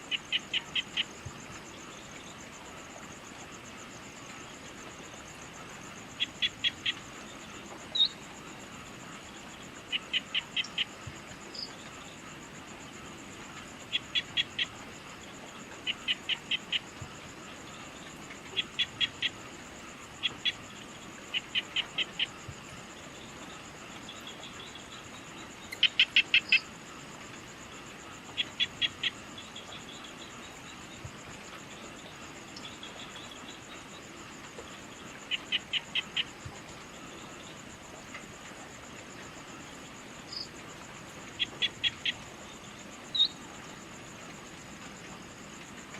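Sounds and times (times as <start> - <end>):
high-pitched insect trill: 0.0 - 45.8.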